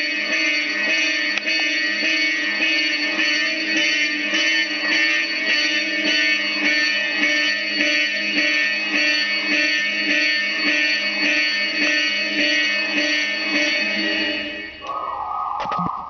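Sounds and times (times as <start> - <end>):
pulsing fire alarm horn: 0.0 - 16.0.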